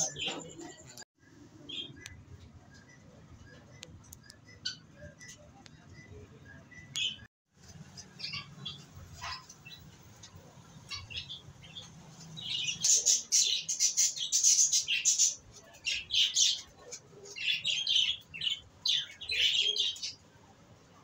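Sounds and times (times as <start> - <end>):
birds chirping and squawking: 0.0 - 20.3.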